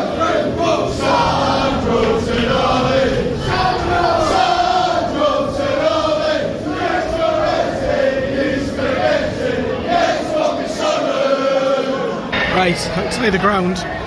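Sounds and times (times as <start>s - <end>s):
crowd singing a chant: 0.0s - 14.0s.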